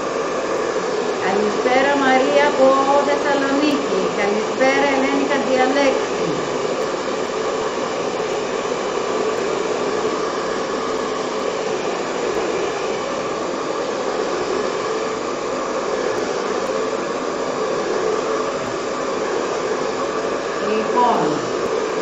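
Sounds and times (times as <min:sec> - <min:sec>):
hot-air dryer blowing: 0:00.0 - 0:22.0.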